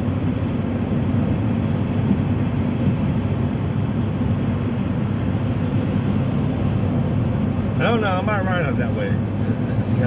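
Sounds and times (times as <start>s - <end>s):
car tyre and engine rumble: 0.0s - 10.0s.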